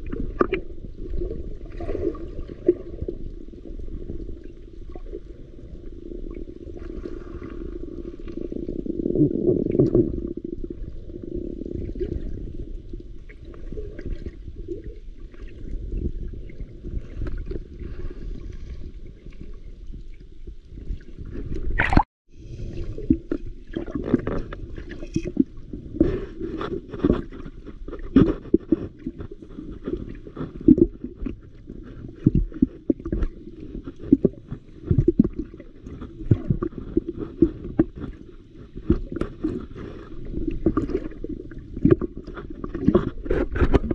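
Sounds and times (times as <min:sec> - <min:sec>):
muffled underwater wash: 0:00.0 - 0:43.9.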